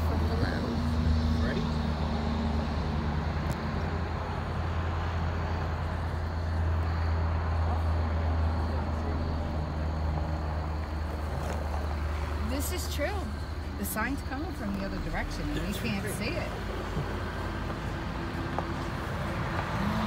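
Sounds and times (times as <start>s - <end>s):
car engine humming inside car: 0.0s - 20.0s.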